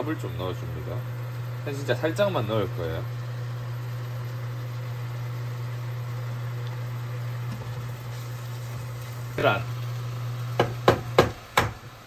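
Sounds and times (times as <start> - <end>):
electric cooktop humming: 0.0 - 12.0.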